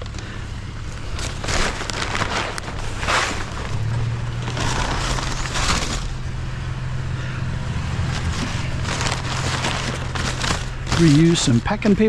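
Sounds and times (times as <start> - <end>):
paper rustling and crumpling: 0.0 - 6.2, 8.0 - 11.8
vehicle engine idling: 0.0 - 12.0.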